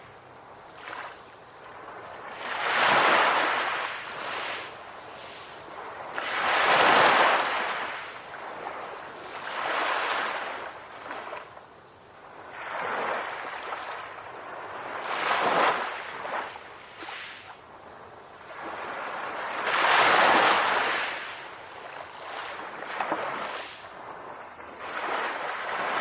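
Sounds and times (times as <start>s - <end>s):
ocean waves washing onto beach: 0.0s - 26.0s.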